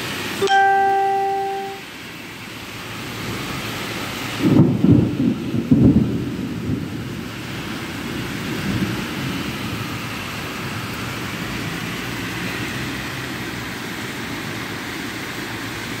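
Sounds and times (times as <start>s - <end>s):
heavy rain on a tiled roof: 0.0s - 16.0s.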